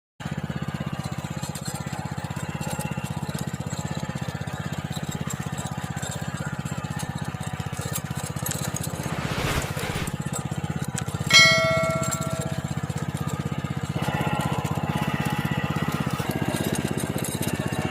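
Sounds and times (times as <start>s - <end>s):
small tiller engine running: 0.2s - 9.4s, 10.6s - 17.9s.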